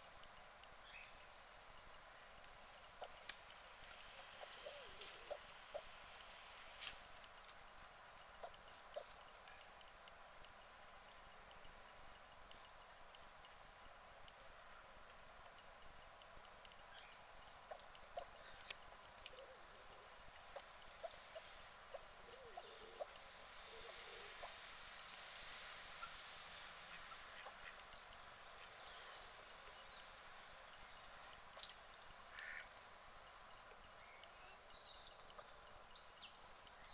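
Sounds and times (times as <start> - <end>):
steady hiss: 0.0 - 36.9.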